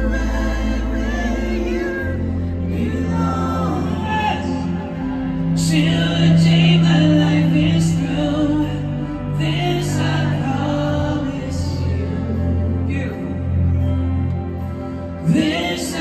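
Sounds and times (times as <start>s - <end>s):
live band playing pop ballad: 0.0s - 16.0s
person singing: 0.0s - 16.0s.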